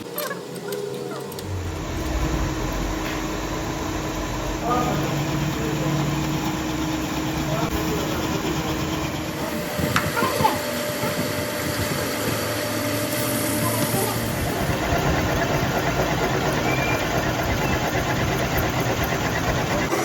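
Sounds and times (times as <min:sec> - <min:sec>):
machine running steadily: 0:01.3 - 0:20.0.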